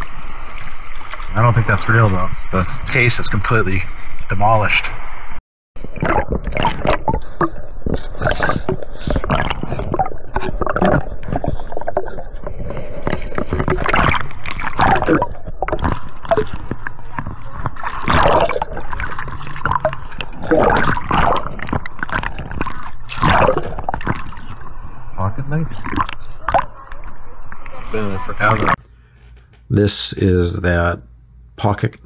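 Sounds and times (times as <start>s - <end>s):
water sloshing and gurgling: 0.0s - 28.8s.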